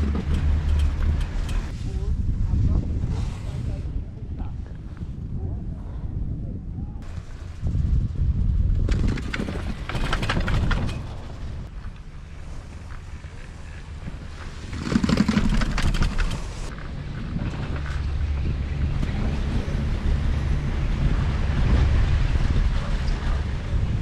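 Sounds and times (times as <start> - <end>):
low rumble of moving rope: 0.0 - 24.0
wind on microphone: 0.0 - 24.0.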